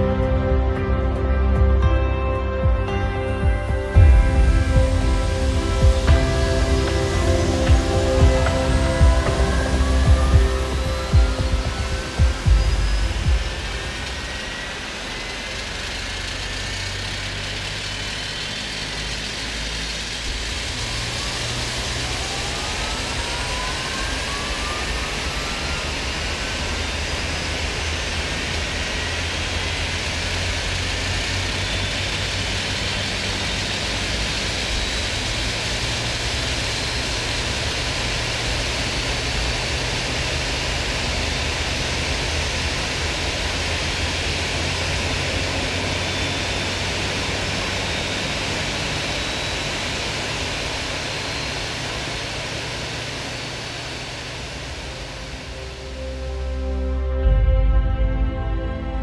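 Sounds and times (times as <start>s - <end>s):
jet turbine whine rising: 0.0s - 59.0s.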